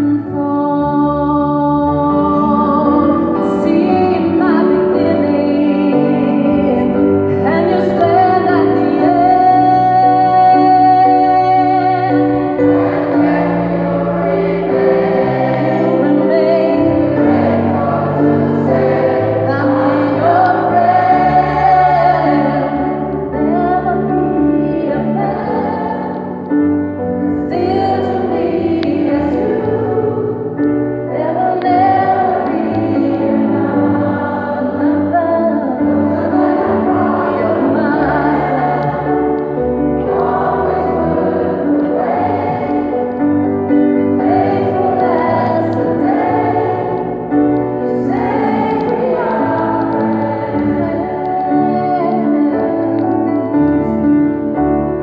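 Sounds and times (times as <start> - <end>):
gospel choir singing: 1.4 - 55.0.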